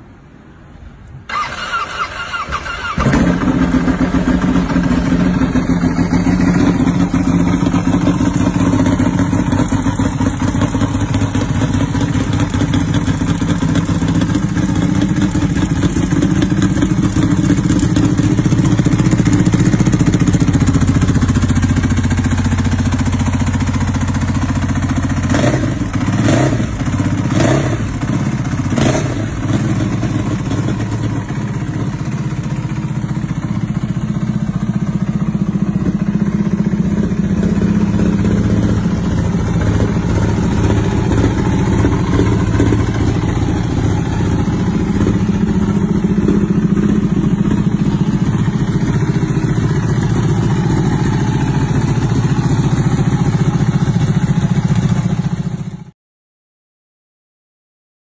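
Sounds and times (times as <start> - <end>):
motorcycle engine idling: 1.3 - 55.9.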